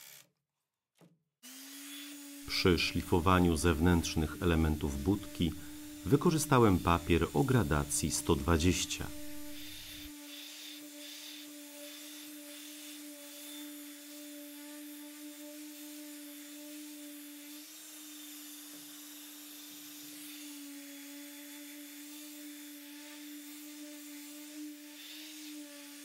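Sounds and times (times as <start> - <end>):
orbital sander humming: 1.5 - 26.0.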